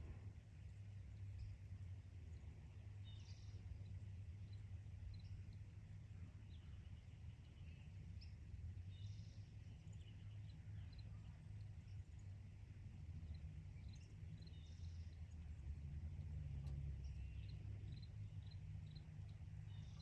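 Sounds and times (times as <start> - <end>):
low outdoor background hum: 0.0 - 20.0
small birds chirping: 0.0 - 20.0.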